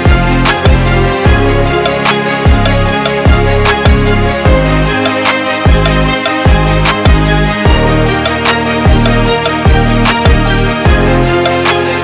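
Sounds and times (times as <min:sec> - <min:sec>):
held bass notes: 0:00.0 - 0:12.0.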